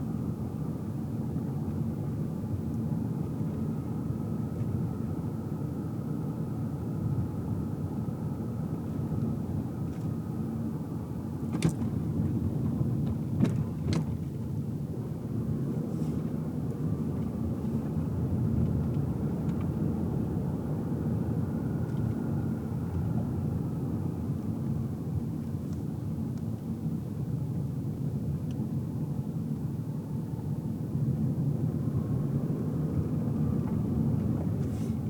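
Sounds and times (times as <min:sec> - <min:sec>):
road and engine rumble: 0:00.0 - 0:35.0.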